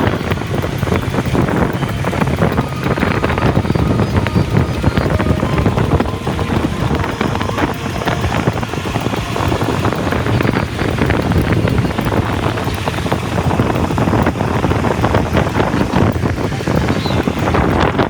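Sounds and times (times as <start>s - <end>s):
heavy truck rumbling: 0.0s - 18.0s
wind buffeting microphone: 0.0s - 18.0s.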